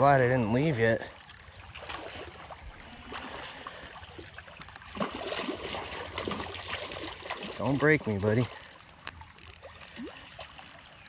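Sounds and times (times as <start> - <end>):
creek water trickling over rocks: 0.0 - 11.0
fish splashing: 0.6 - 11.0.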